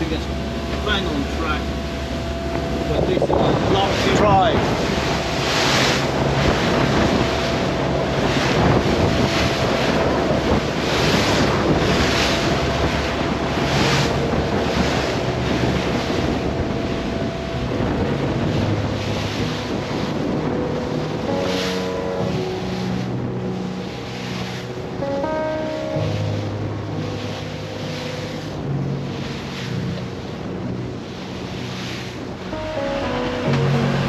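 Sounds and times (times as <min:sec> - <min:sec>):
boat engines droning: 0:00.0 - 0:34.0
spray rushing along hull: 0:00.0 - 0:34.0
wind buffeting microphone: 0:00.0 - 0:34.0.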